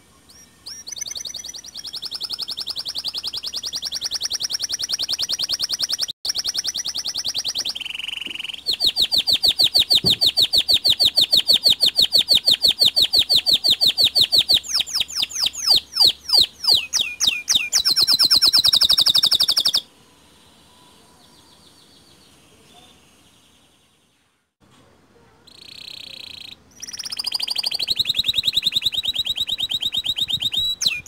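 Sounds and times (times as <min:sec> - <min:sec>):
canary downward whistles: 0:00.3 - 0:19.9, 0:25.6 - 0:31.0
canary trilling: 0:00.3 - 0:19.9, 0:25.5 - 0:31.0.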